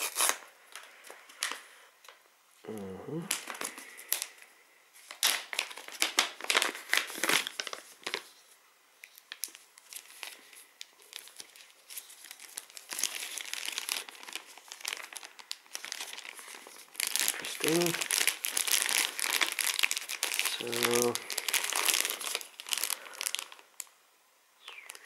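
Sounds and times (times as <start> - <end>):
paper crinkling: 3.3 - 23.9
plastic bag crinkling: 3.3 - 23.9, 24.7 - 25.0.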